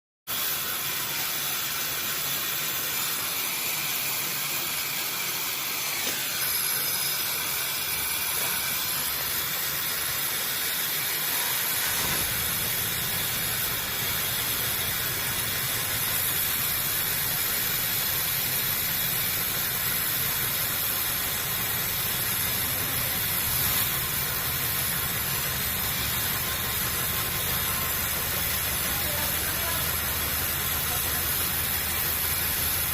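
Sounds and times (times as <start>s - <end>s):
torch flame hissing: 0.3s - 32.9s.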